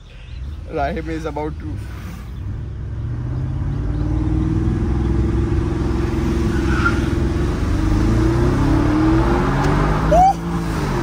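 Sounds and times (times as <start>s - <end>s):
car engine accelerating hard: 0.4s - 11.0s.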